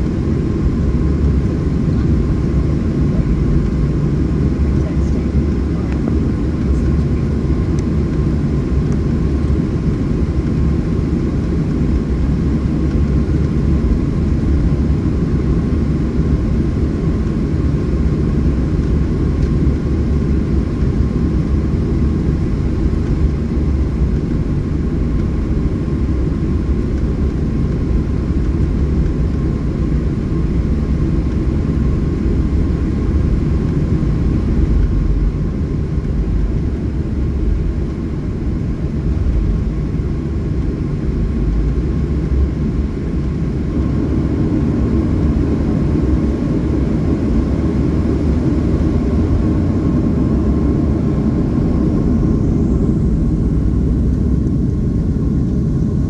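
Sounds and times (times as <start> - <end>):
faint steady whine: 0.0 - 56.0
jet engines low rumble: 0.0 - 56.0.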